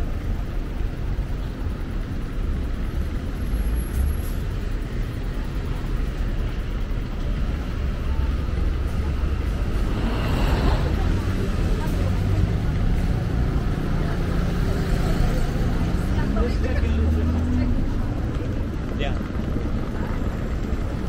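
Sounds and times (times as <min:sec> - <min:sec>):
low rumble of road traffic: 0:00.0 - 0:21.0.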